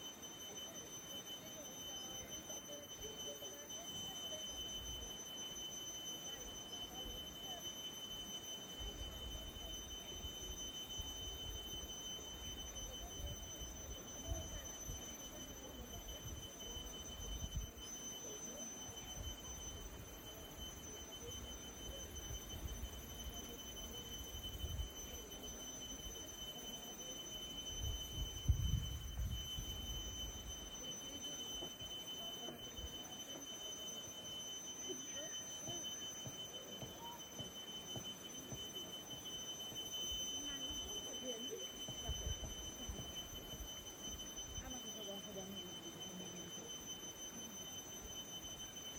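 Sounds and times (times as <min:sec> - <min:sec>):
steady high thin tone: 0:00.0 - 0:48.9.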